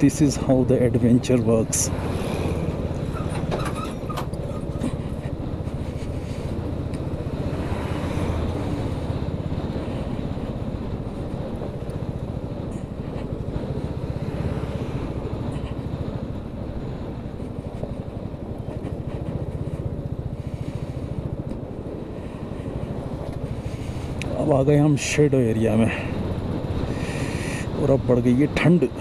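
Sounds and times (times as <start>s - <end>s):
motorcycle engine running: 0.0s - 28.8s
tyres rumbling on gravel road: 0.0s - 29.0s.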